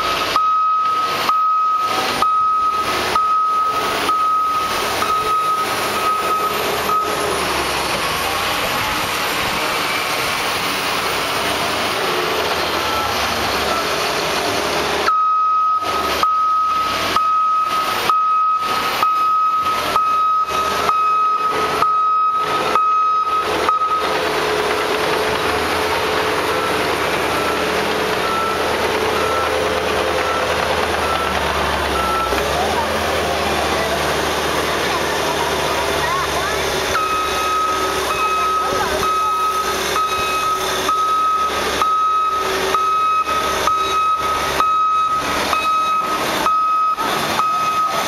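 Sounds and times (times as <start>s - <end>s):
heavy machinery diesel engines: 0.0s - 48.0s
reversing alarm beeping: 0.0s - 48.0s.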